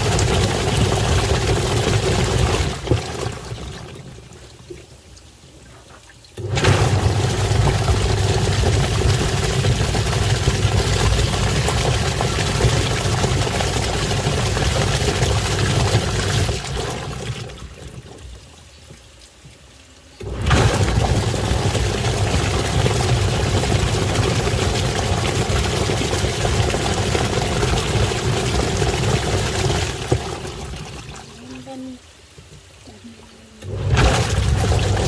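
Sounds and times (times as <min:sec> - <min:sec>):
washing machine water churning: 0:00.0 - 0:35.0
low motor hum: 0:05.8 - 0:32.0, 0:32.8 - 0:35.0.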